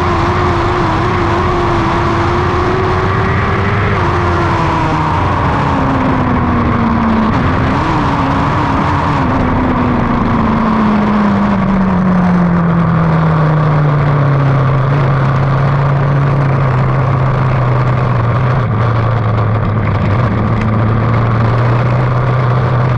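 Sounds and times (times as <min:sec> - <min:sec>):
race car engine slowing down: 0:00.0 - 0:22.9
steady rushing noise: 0:00.0 - 0:22.9.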